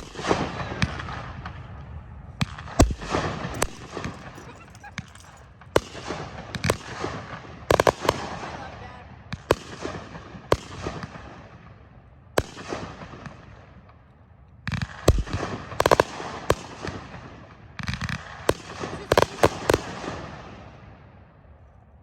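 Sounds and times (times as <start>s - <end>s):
fireworks bangs and crackling: 0.0s - 21.3s.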